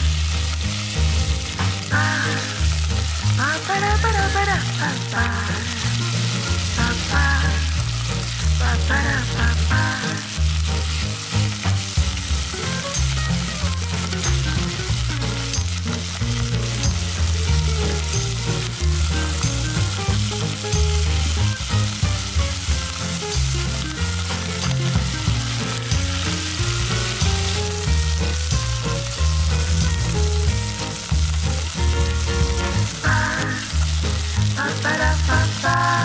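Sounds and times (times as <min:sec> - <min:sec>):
background music with bass line: 0:00.0 - 0:36.0
chicken sizzling in hot oil: 0:00.0 - 0:36.0.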